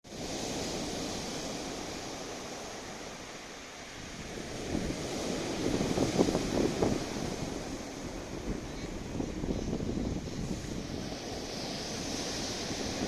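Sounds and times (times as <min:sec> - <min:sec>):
wind buffeting the microphone: 0:00.1 - 0:13.0.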